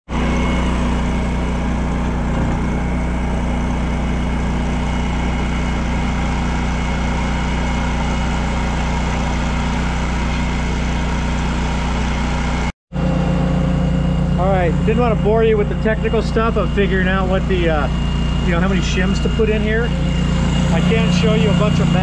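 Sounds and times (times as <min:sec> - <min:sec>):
diesel engine idling: 0:00.1 - 0:22.0
hydraulic hum: 0:00.1 - 0:22.0.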